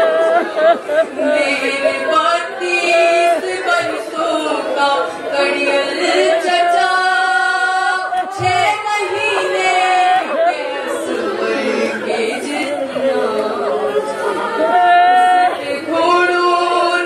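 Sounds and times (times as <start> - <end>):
woman singing a lament: 0.0 - 17.0.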